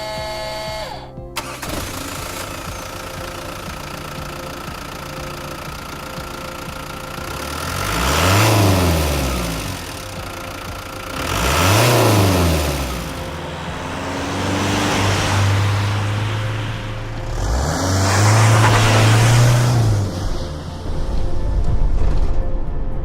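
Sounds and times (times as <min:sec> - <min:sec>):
diesel van engine revving: 0:00.0 - 0:21.8.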